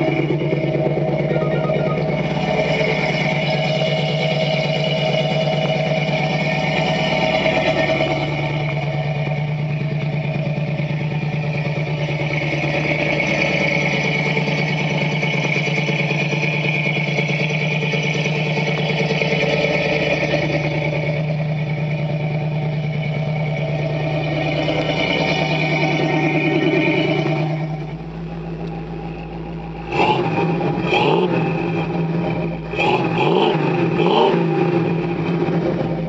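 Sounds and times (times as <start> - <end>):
vee eight engine idling: 0.0 - 36.0.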